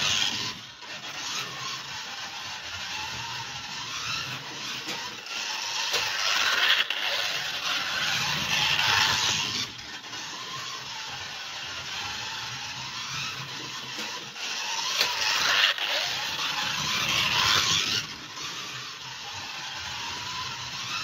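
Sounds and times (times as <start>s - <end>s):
slot car electric motor: 0.0s - 21.0s.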